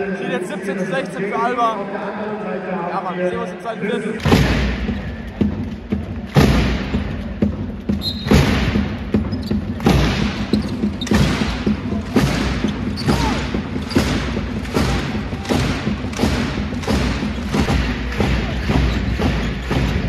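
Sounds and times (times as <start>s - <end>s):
arena crowd noise: 0.0s - 20.0s
echoing thumps: 3.3s - 20.0s.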